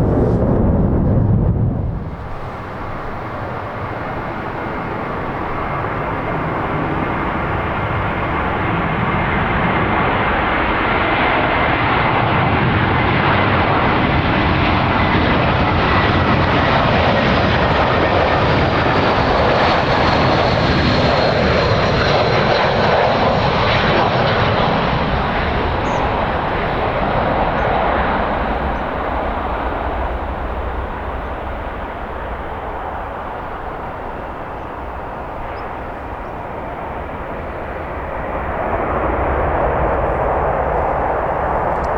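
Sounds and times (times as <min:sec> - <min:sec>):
jet engine high whine: 0:00.0 - 0:41.9
jet engines roaring: 0:00.0 - 0:41.9.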